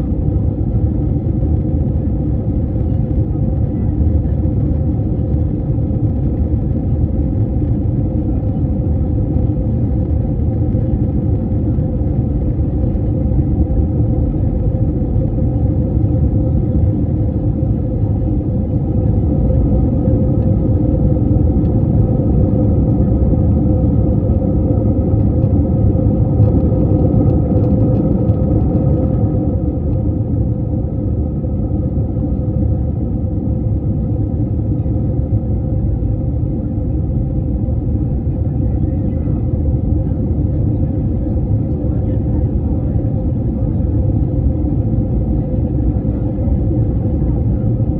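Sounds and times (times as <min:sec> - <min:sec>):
constant hum: 0:00.0 - 0:47.9
jet cabin engine rumble: 0:00.0 - 0:47.9.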